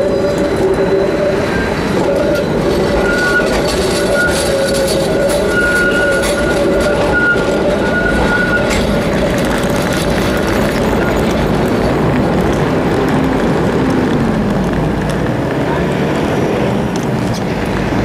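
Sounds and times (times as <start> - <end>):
bus engine hum: 0.0 - 18.0
traffic noise: 0.0 - 18.0
tram wheels whining: 0.0 - 18.0.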